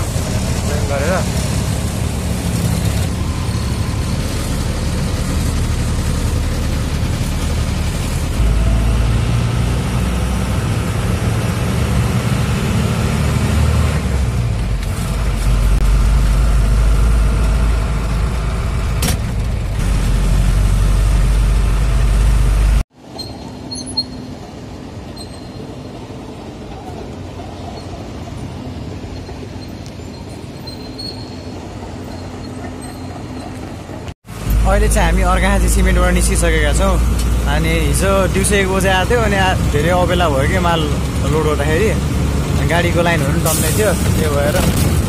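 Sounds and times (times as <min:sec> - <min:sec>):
diesel truck engine rumble: 0:00.0 - 0:45.0.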